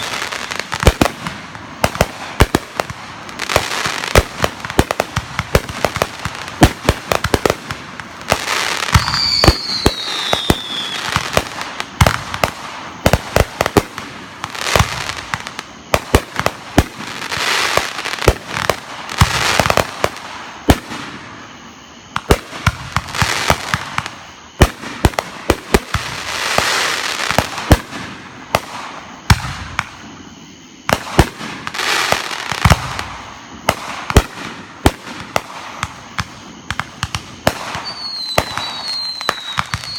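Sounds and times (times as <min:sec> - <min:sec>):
falling firework whistle: 0:00.0 - 0:39.9
fireworks bangs and pops: 0:00.0 - 0:39.9
fireworks crackling: 0:00.0 - 0:39.9.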